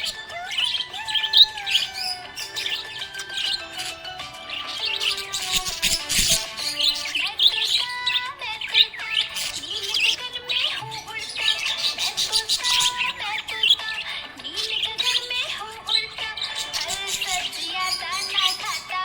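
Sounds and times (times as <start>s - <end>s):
background music: 0.0s - 19.0s
budgerigar chirping and warbling: 0.0s - 19.0s.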